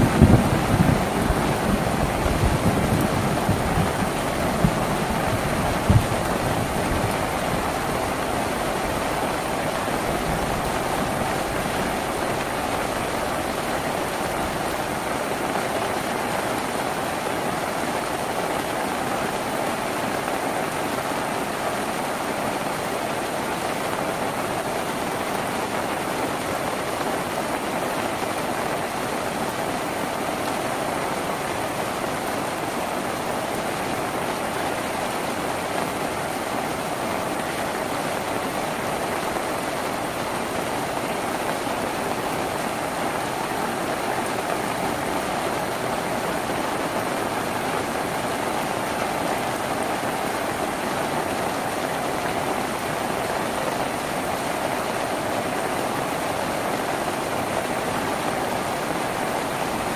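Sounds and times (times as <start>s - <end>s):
heavy rain on a tin roof: 0.0s - 59.9s.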